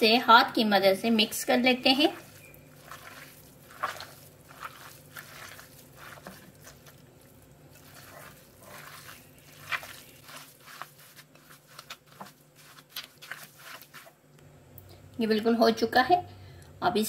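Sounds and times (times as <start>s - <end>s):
hand kneading wet meat mixture: 0.0s - 14.5s.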